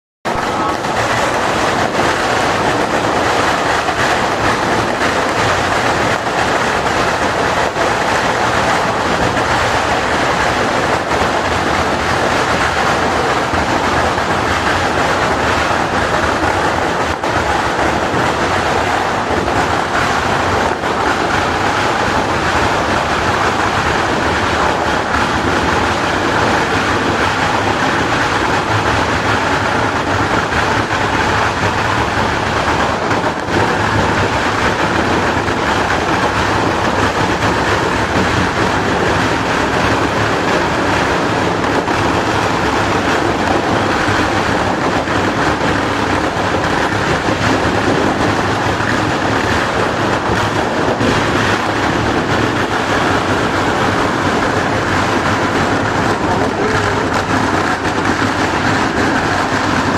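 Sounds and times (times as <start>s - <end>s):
fireworks crackling barrage: 0.3s - 59.9s.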